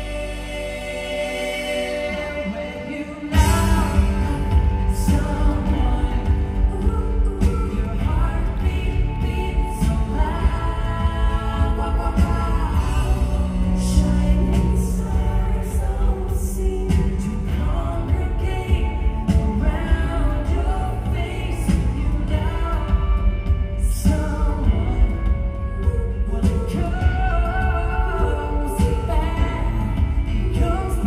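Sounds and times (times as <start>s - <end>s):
live pop band playing: 0.0s - 31.0s
person singing: 0.0s - 31.0s.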